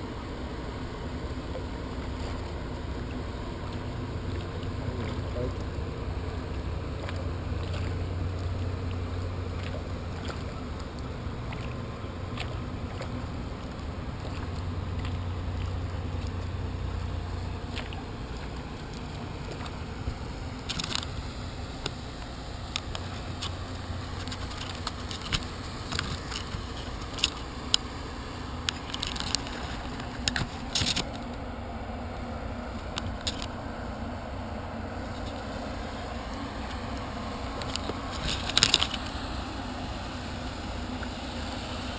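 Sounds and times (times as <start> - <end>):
low water rumble: 0.0 - 41.9
paddle splashing water: 0.0 - 41.9.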